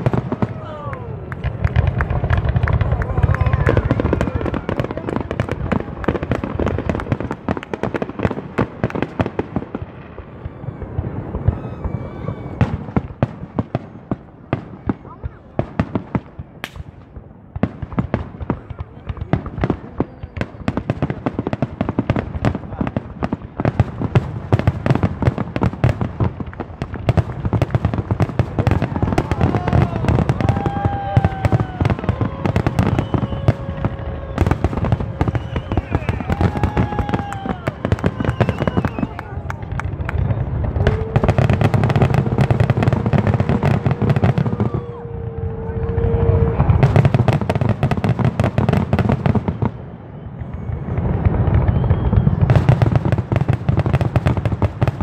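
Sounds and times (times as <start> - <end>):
deep fireworks booms: 0.0 - 55.0
fireworks crackling: 0.0 - 55.0.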